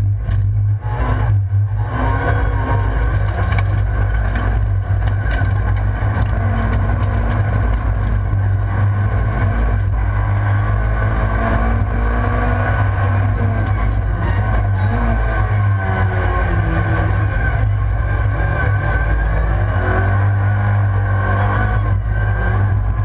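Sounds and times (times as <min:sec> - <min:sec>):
racing car engine at high revs: 0:00.0 - 0:23.0.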